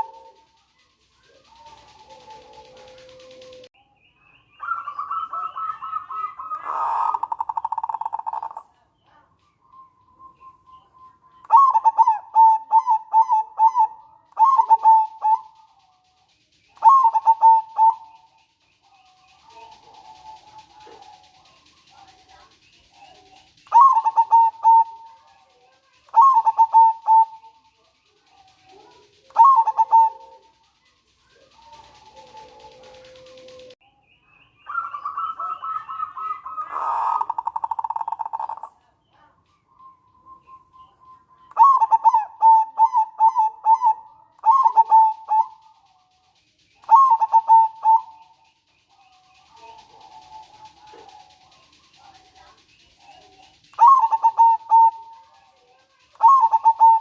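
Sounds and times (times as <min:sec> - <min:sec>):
dove cooing and trilling: 0:00.0 - 0:03.7, 0:04.6 - 0:33.8, 0:34.7 - 0:57.0
faint high chirping: 0:00.0 - 0:57.0.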